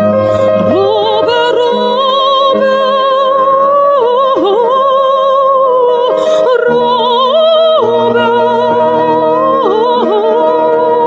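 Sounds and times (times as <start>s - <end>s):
low musical accompaniment: 0.0s - 11.0s
slow melody with vibrato: 0.0s - 11.0s.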